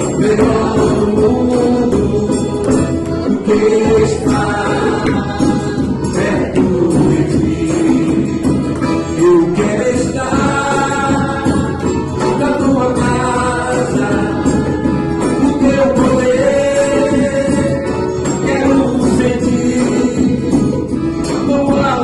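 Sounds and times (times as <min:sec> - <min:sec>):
instrumental accompaniment: 0:00.0 - 0:22.0
voices singing worship music: 0:00.0 - 0:22.0.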